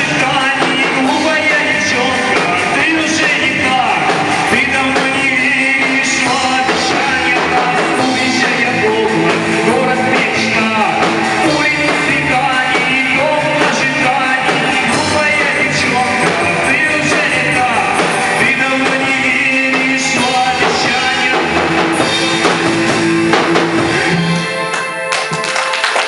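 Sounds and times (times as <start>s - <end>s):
rock band music: 0.0s - 26.0s.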